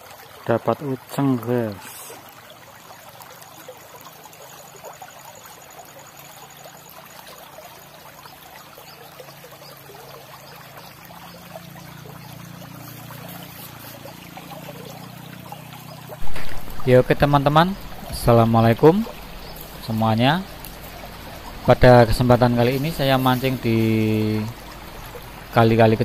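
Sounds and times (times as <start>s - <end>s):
stream trickling over stones: 0.0s - 26.0s.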